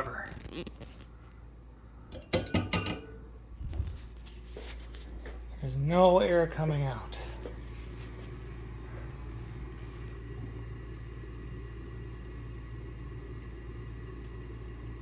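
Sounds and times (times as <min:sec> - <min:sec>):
furnace motor humming: 0:00.0 - 0:15.0.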